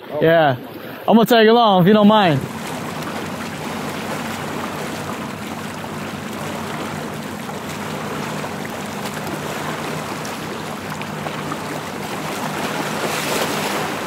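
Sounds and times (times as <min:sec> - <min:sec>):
low steady hum: 0:01.6 - 0:14.0
water lapping against rocks: 0:01.9 - 0:14.0.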